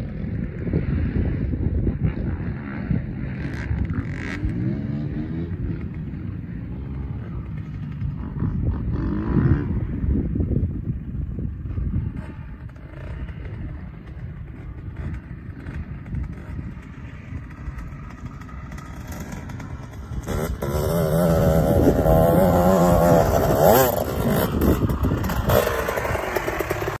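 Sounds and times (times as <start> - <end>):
motocross bike engine revving: 2.0 - 10.4, 11.7 - 27.0.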